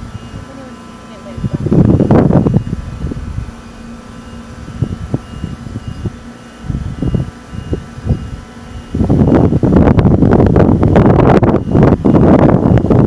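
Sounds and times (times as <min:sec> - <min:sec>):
wind buffeting microphone: 0:00.0 - 0:00.6, 0:01.2 - 0:13.0
steady low hum: 0:00.0 - 0:13.0.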